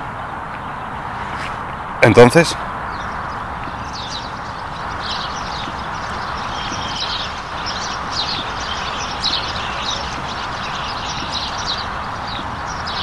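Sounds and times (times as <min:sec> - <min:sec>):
birds chirping: 0:00.0 - 0:13.0
outdoor background hiss: 0:00.0 - 0:13.0.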